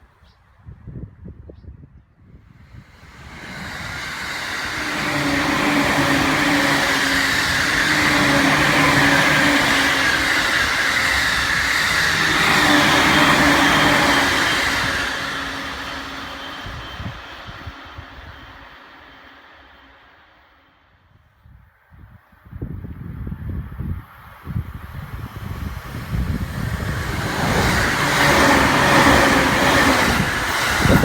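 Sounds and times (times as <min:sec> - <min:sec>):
electric train passing: 0:02.5 - 0:31.0.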